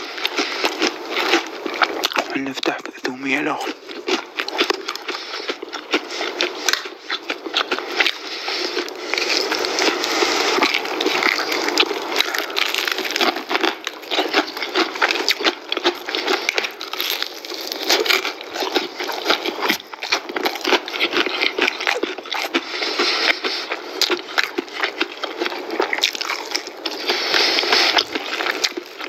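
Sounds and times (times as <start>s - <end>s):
crunching fried chicken: 0.0s - 29.0s.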